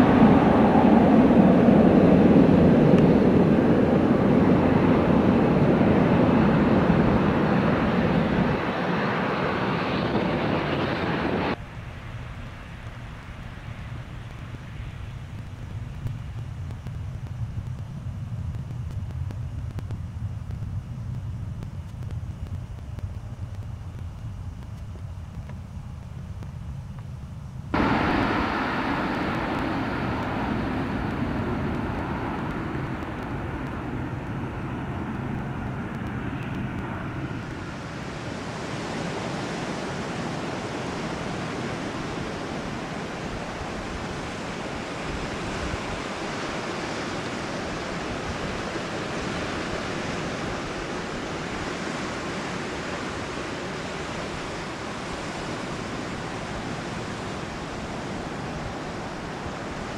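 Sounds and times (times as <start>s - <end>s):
wind and surf rushing: 0.0s - 26.6s, 27.6s - 59.9s
propeller plane passing overhead: 0.0s - 59.9s.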